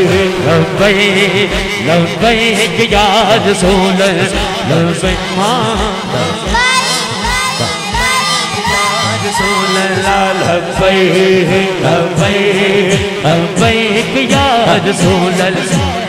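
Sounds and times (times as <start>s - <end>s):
amplified devotional singing: 0.0s - 16.0s
steady low beat: 0.0s - 16.0s.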